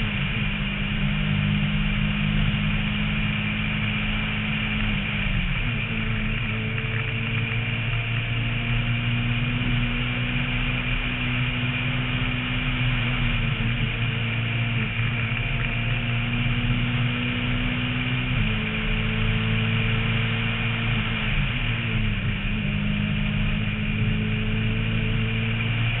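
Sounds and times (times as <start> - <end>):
rally car engine running: 0.0 - 26.0
wind and road noise: 0.0 - 26.0.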